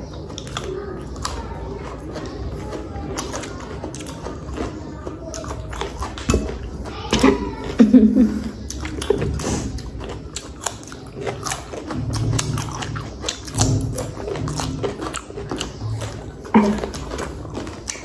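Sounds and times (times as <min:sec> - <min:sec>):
cucumber being bitten and chewed: 0:00.0 - 0:07.9, 0:08.5 - 0:18.0.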